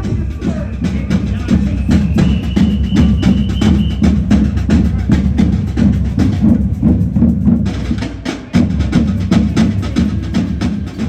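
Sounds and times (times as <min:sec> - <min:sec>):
pulsing low drum: 0:00.0 - 0:11.0.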